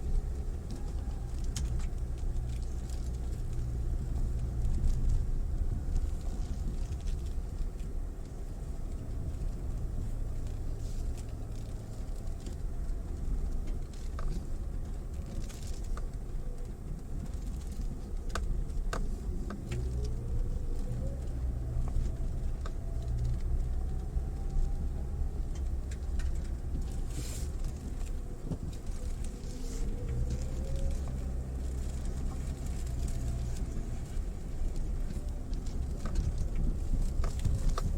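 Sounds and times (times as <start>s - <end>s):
car engine humming with whine: 0.0s - 37.9s.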